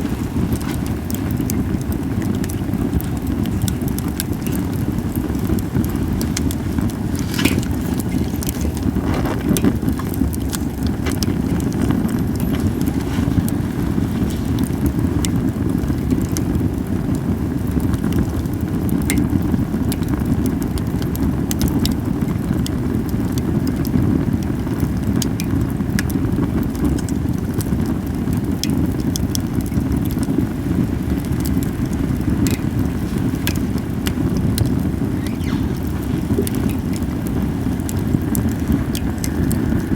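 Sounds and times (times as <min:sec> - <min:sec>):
campfire crackling and popping: 0:00.0 - 0:39.9
low rumble of fire: 0:00.0 - 0:39.9.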